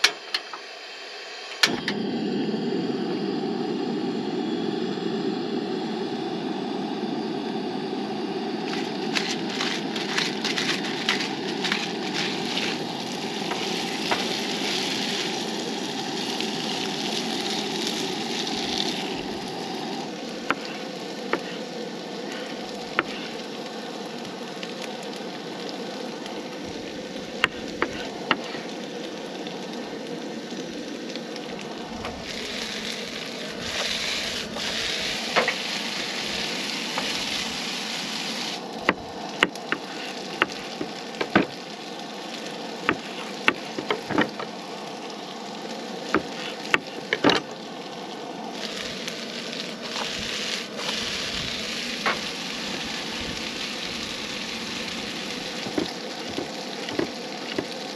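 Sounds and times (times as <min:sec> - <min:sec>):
food sizzling in a skillet: 0:07.6 - 0:57.9.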